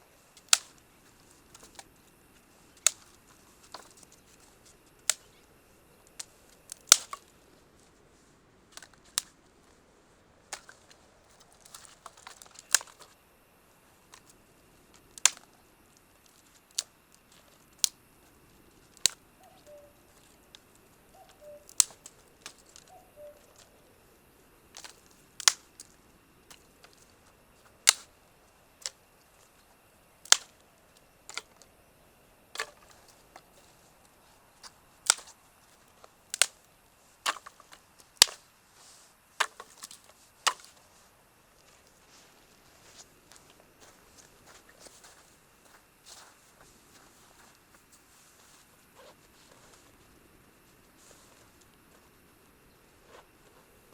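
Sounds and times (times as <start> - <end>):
campfire wood popping: 0.1 - 53.9.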